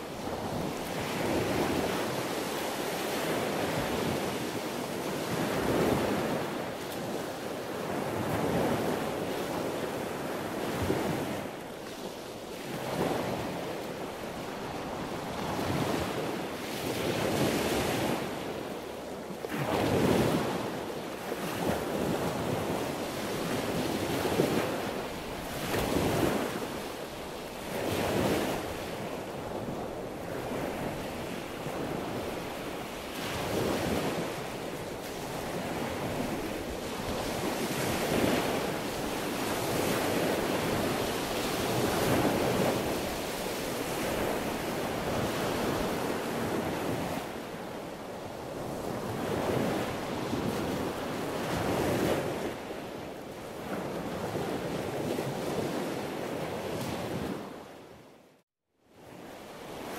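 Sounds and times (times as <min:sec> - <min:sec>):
sea waves breaking: 0:00.0 - 0:57.6.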